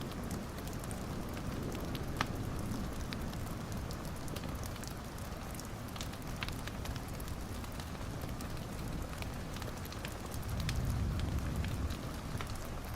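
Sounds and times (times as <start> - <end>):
fire crackling and popping: 0.0 - 12.9.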